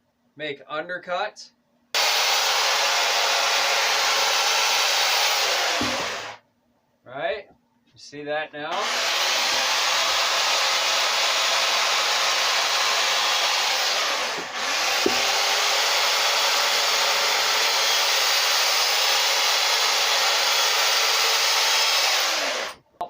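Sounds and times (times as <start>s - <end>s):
chainsaw cutting wood: 2.0s - 6.4s, 8.7s - 22.8s.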